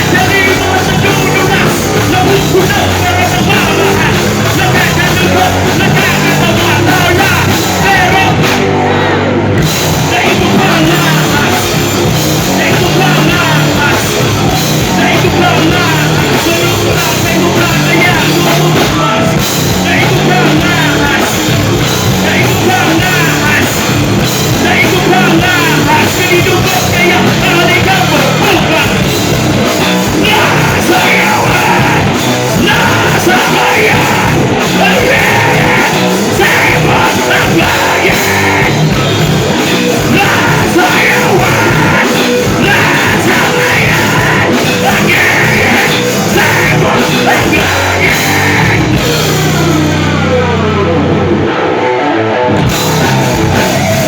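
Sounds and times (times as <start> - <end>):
heavy rock band playing: 0.0 - 54.0.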